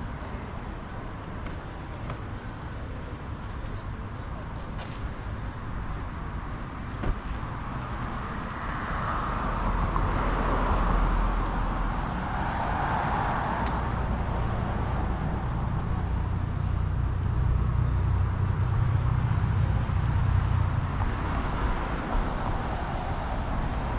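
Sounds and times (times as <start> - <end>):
low traffic rumble: 0.0 - 23.9.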